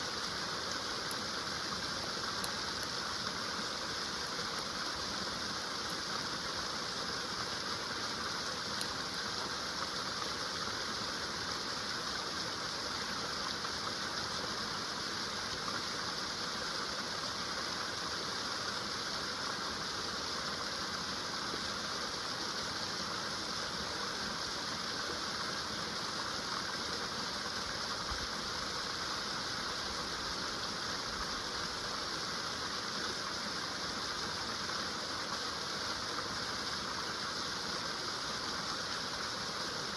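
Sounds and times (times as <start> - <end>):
stream rushing over waterfalls: 0.0 - 39.9.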